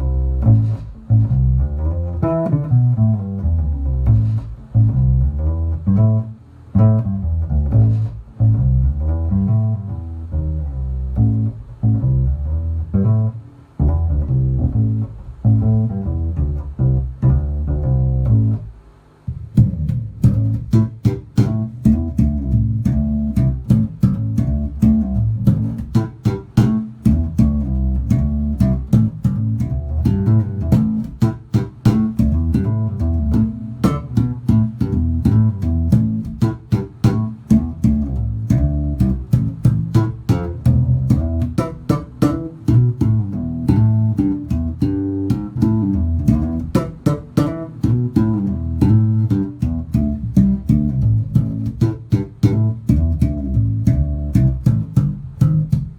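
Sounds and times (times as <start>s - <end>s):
electric bass guitar plucked: 0.0s - 55.9s.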